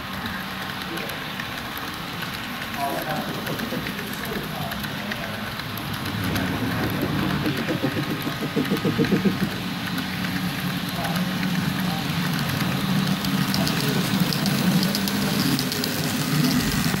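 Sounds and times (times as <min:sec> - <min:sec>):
model train wheel clicks: 0:00.1 - 0:17.0.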